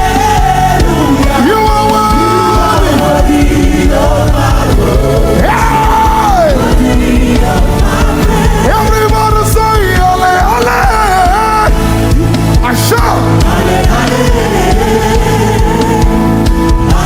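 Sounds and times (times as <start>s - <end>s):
gospel band playing: 0.0s - 17.0s.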